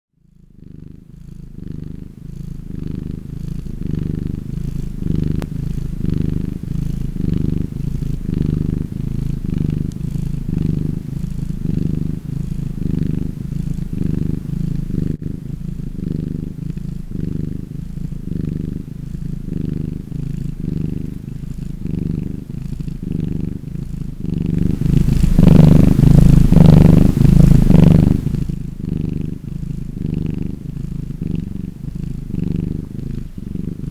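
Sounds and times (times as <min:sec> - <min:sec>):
cat purring: 0:00.2 - 0:33.9.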